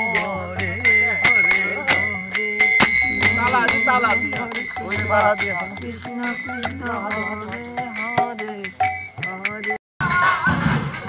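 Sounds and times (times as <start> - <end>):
low drum beat: 0.0 - 9.8
small hand cymbals striking: 0.0 - 9.8
voices singing a melody: 0.0 - 10.6.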